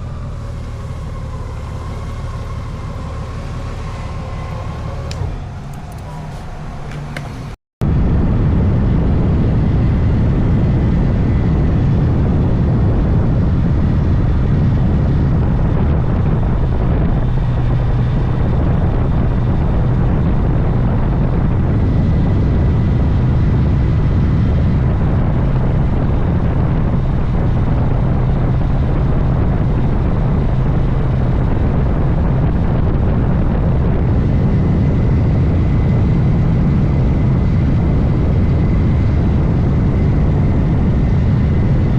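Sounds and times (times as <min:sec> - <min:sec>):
motorcycle engine drone: 0:00.0 - 0:41.9
wind and road rush: 0:00.0 - 0:41.9.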